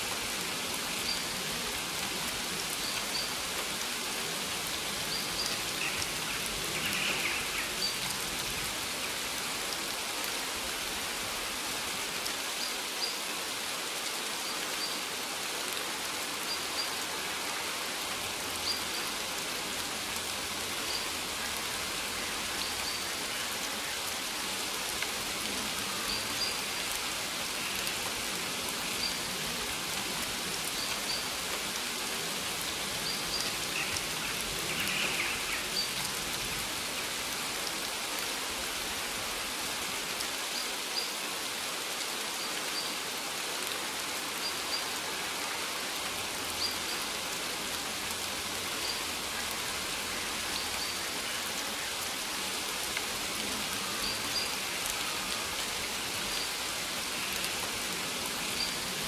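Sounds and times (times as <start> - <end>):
rain on leaves: 0.0 - 59.0.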